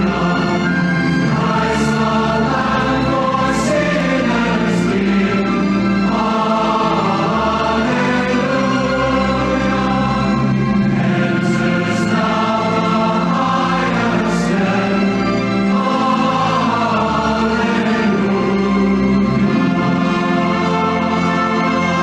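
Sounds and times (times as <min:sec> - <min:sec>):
large choir singing a hymn: 0:00.0 - 0:22.0.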